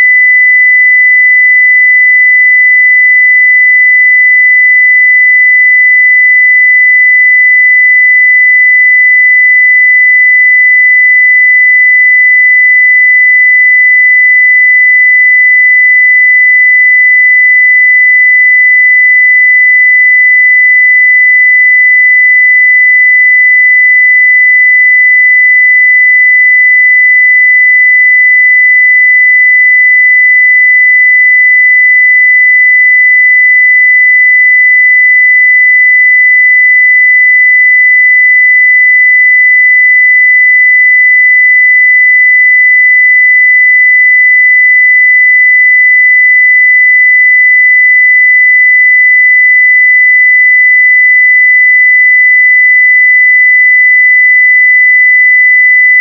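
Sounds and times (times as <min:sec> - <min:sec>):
sine-wave test tone: 0:00.0 - 0:56.0.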